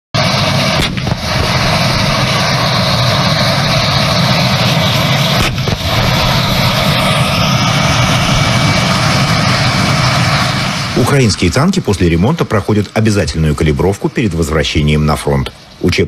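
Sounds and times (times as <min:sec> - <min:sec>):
tank engine rumbling: 0:00.2 - 0:16.0.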